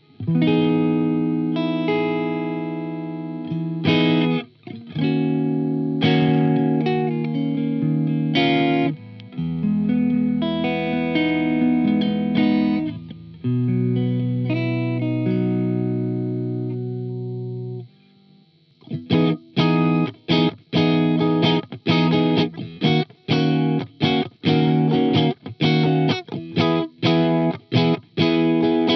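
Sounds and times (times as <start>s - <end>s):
clean electric guitar chords: 0.0s - 28.9s.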